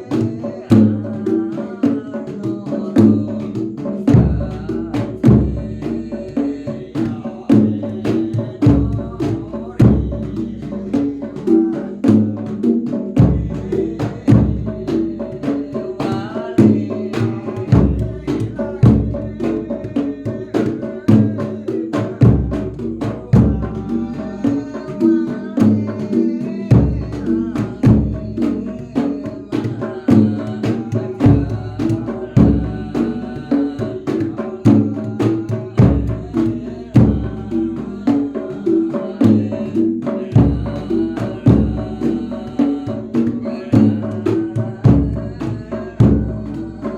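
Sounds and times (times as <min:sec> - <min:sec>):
percussion ensemble playing: 0:00.0 - 0:46.9
deep bass drum beats: 0:03.0 - 0:06.2, 0:07.1 - 0:11.2, 0:12.1 - 0:15.4, 0:16.1 - 0:29.2, 0:30.1 - 0:38.4, 0:39.2 - 0:46.9.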